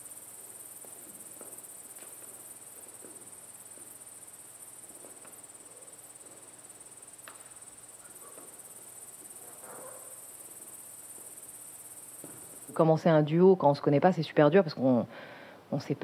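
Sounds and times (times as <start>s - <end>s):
high-pitched hiss: 0.0s - 13.6s.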